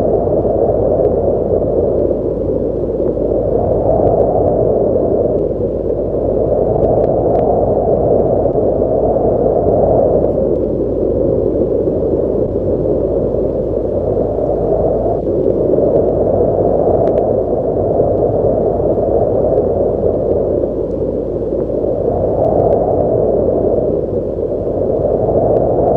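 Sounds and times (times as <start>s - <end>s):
strong wind blowing: 0.0s - 25.9s.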